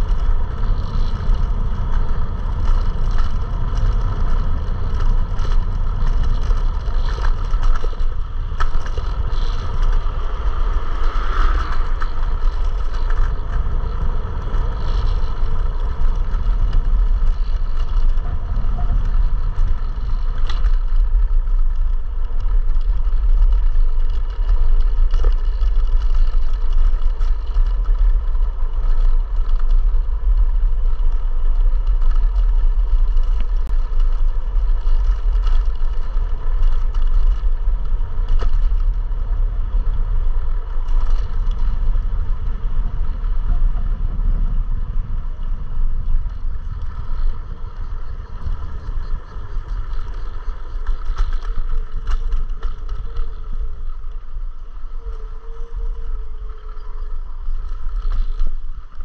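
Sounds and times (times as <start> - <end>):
small clicks and rattles: 0.0 - 44.4, 45.0 - 59.0
faint steady whine: 0.0 - 59.0
road noise: 0.0 - 59.0
wind rumble on microphone: 0.0 - 59.0.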